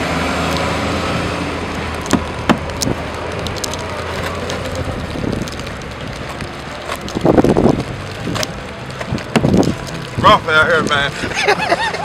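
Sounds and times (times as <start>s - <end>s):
outdoor noise: 0.0s - 12.0s
vehicle engine humming: 0.0s - 12.0s
sharp crackles: 0.3s - 12.0s.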